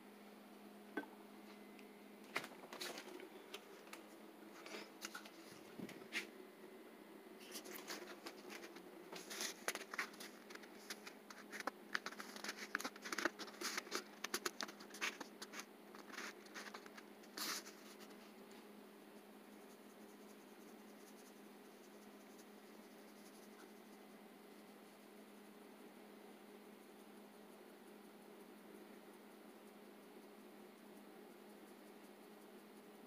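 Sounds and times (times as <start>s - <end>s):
faint steady hum: 0.0s - 33.0s
faint scratching and clicking: 1.5s - 6.3s, 7.4s - 33.0s.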